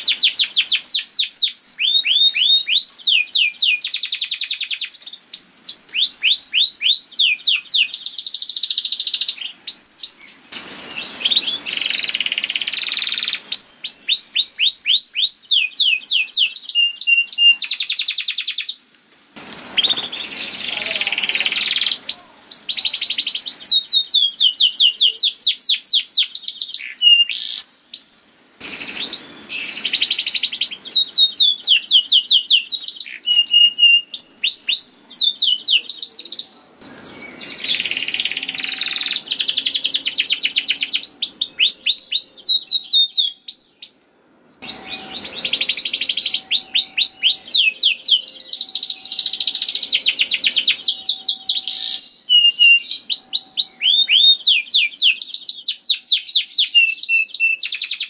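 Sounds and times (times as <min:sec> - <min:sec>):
canary singing: 0:00.0 - 0:18.9, 0:19.6 - 0:58.0.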